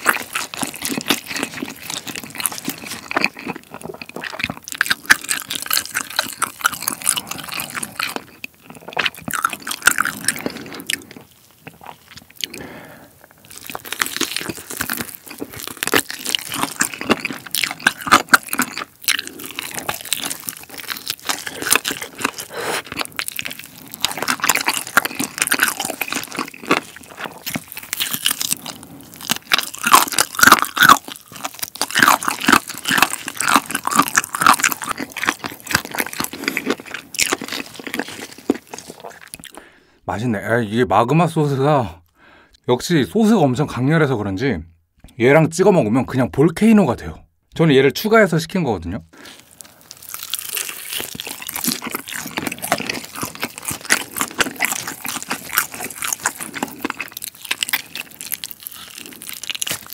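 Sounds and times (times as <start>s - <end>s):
crunching of coating: 0.0s - 39.6s, 49.2s - 59.9s
person chewing chicken: 0.0s - 39.8s, 49.2s - 59.9s.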